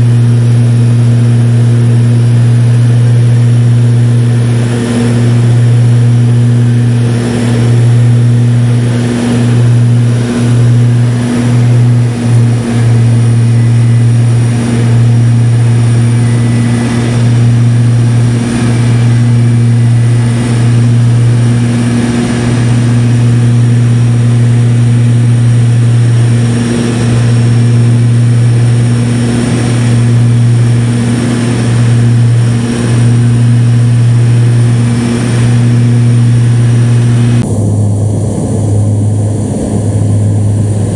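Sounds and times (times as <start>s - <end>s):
propeller aircraft engine drone: 0.0s - 40.9s.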